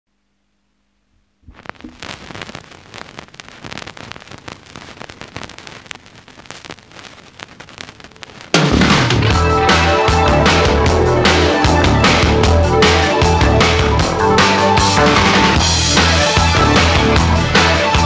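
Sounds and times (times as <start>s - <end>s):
vinyl crackle and pops: 1.0s - 18.0s.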